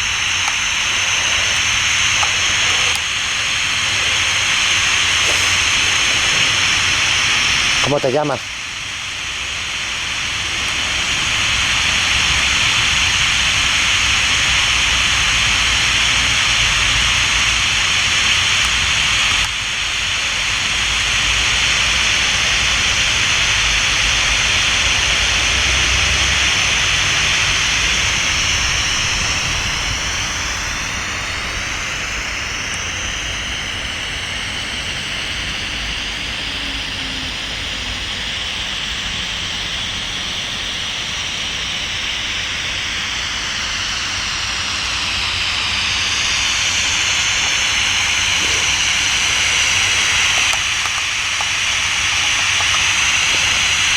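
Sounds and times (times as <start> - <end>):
white noise hiss: 0.0 - 53.9.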